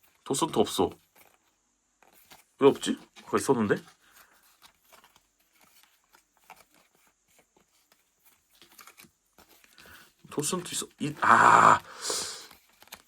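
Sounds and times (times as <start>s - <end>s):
photo cards being handled: 0.0s - 11.2s, 12.4s - 13.0s.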